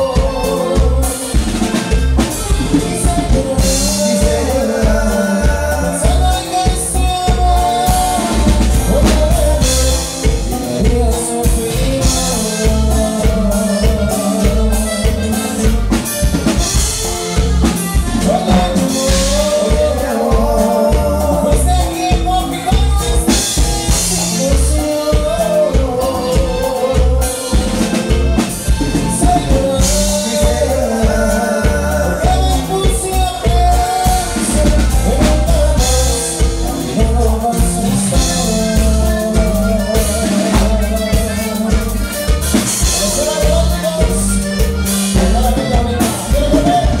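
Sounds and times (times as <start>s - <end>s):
drum kit beat: 0.0s - 47.0s
live dance band playing: 0.0s - 47.0s
person singing: 0.0s - 47.0s.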